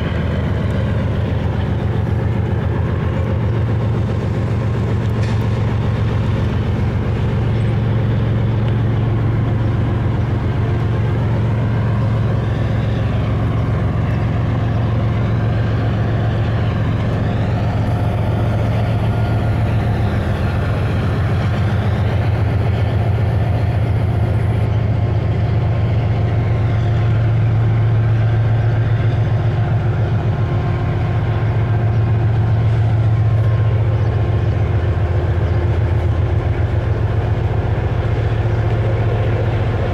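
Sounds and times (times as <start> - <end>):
locomotive engines droning: 0.0 - 39.9.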